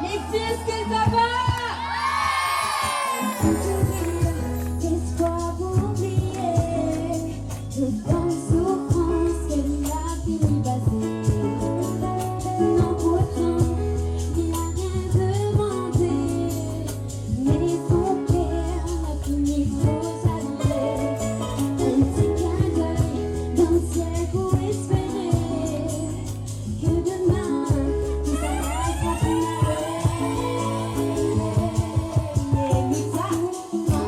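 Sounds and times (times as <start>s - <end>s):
live band music: 0.0s - 34.0s.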